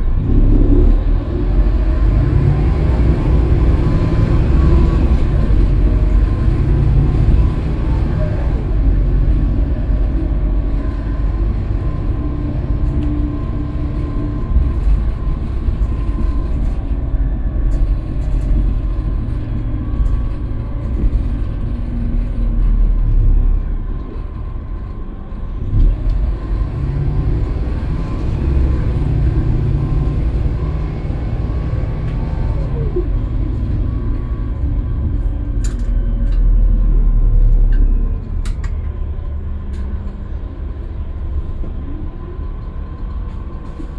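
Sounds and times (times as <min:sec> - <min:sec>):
bus diesel engine from inside: 0:00.0 - 0:43.9.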